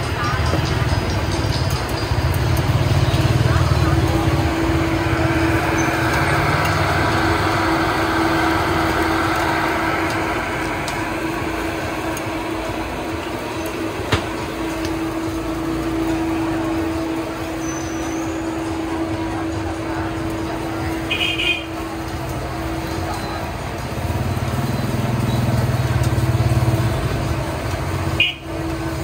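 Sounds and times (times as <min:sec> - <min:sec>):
street market hubbub: 0:00.0 - 0:29.0
traffic: 0:00.0 - 0:29.0.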